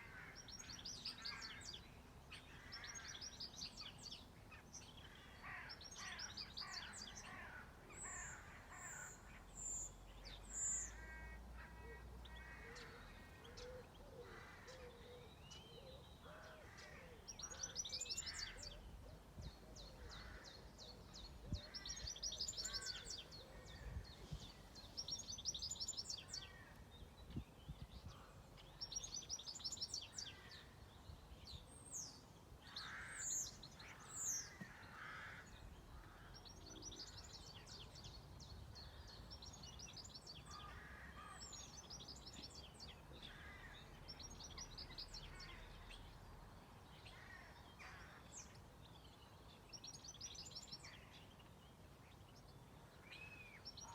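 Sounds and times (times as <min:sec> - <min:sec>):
songbirds trilling: 0:00.0 - 0:53.9.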